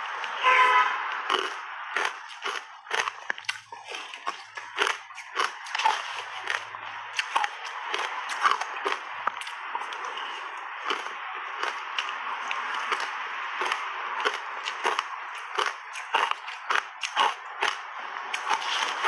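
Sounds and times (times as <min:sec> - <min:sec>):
chewing crunchy ice: 0:01.1 - 0:19.0.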